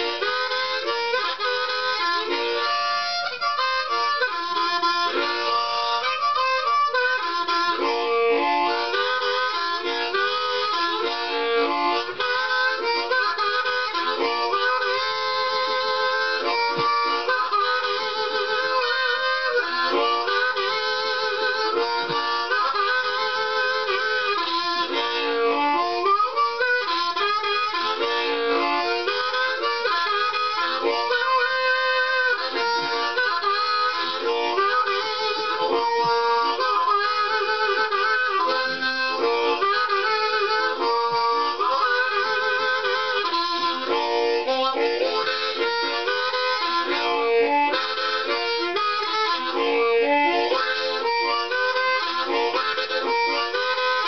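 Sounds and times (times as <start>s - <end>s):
harmonica rhythmic chords: 0.0s - 54.0s.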